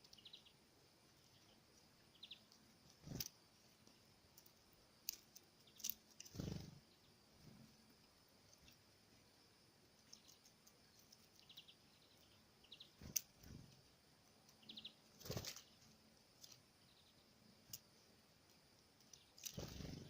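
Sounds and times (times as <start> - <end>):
wing rustles: 1.0 - 9.2, 9.9 - 16.8, 17.6 - 20.0.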